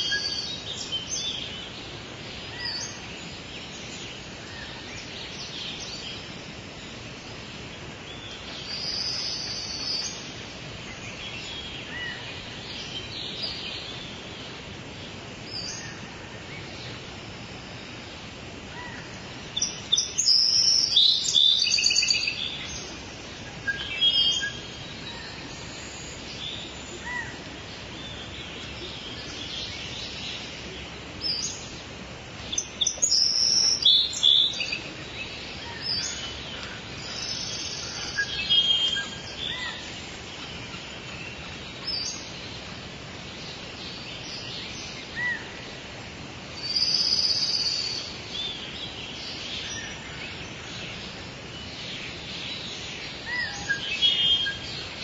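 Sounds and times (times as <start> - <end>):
birds singing and calling: 0.0 - 55.0
steady background hiss: 0.0 - 55.0.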